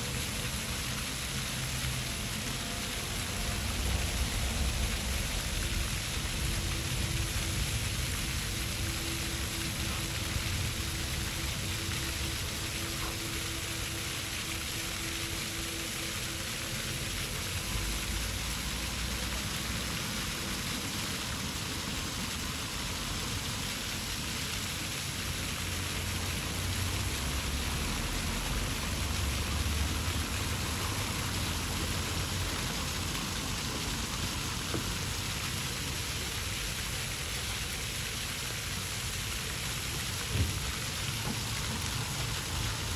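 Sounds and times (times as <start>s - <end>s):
fountain water splashing: 0.0s - 42.9s.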